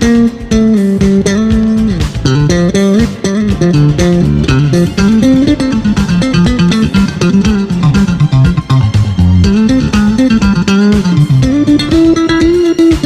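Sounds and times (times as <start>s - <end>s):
bass guitar line: 0.0s - 13.0s
plucked guitar melody: 0.0s - 13.0s.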